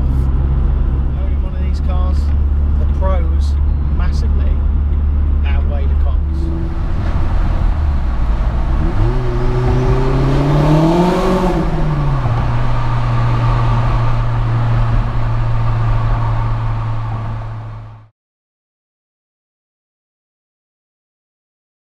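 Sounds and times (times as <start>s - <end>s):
car engine accelerating: 0.0s - 18.1s.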